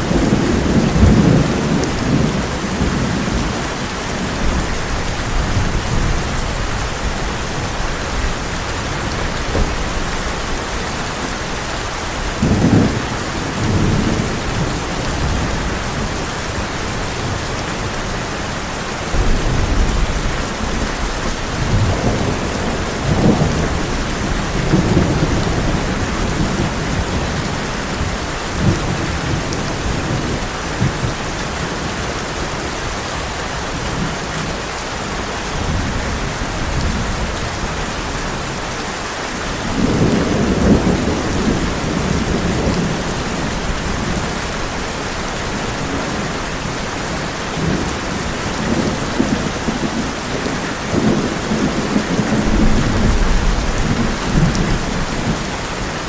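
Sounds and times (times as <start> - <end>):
thunder rumbling: 0.0 - 31.9, 39.5 - 56.0
heavy rain on a tin roof: 0.0 - 56.0.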